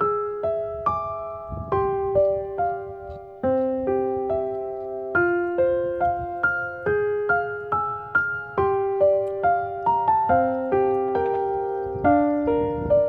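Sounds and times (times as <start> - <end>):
solo piano melody: 0.0 - 13.0.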